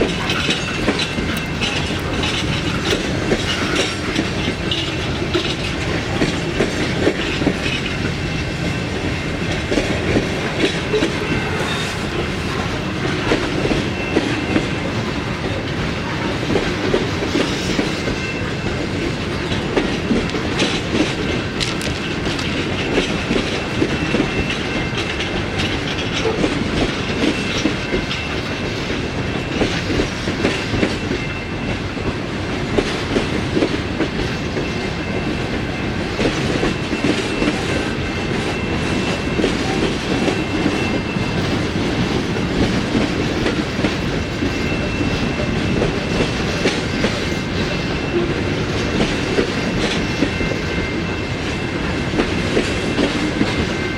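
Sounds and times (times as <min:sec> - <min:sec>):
steady rumble of freight cars: 0:00.0 - 0:53.9
train wheels clattering over rail joints: 0:00.0 - 0:53.9.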